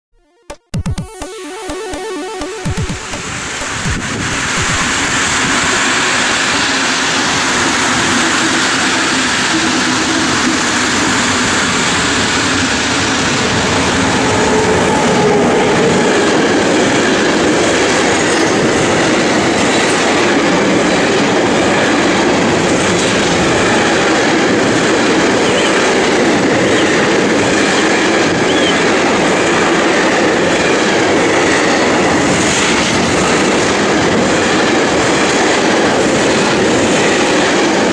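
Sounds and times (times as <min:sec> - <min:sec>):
freight train wheels rumbling: 0:03.6 - 0:37.9.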